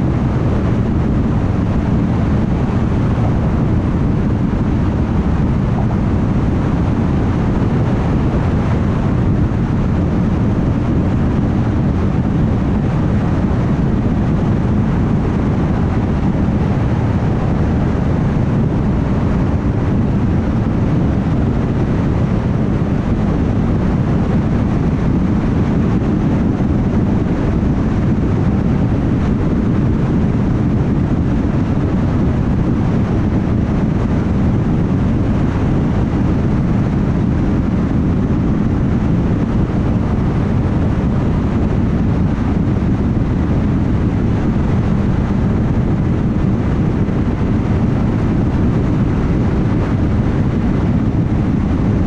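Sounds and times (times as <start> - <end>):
wind: 0.0 - 52.0.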